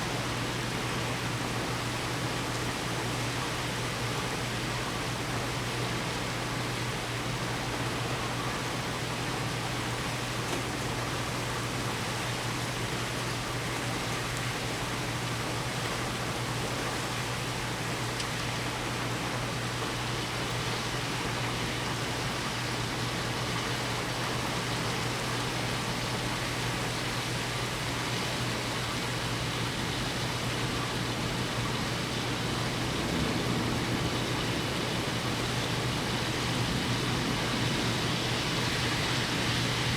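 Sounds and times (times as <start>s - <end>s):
heavy rain pouring: 0.1s - 39.9s.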